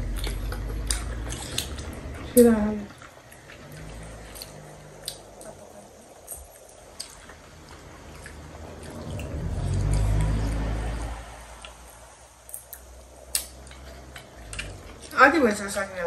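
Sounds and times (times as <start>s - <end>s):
wet chewing and mouth smacks: 0.0s - 2.3s, 2.9s - 15.2s
low rumbling: 0.0s - 16.0s.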